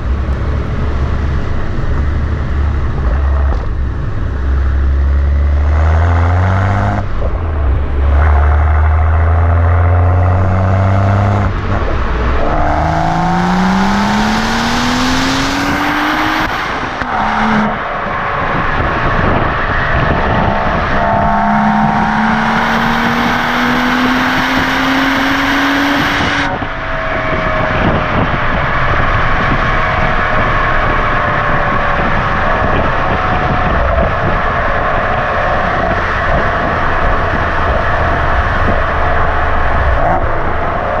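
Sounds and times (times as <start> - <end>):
car exhaust engine note rising: 0.0 - 41.0.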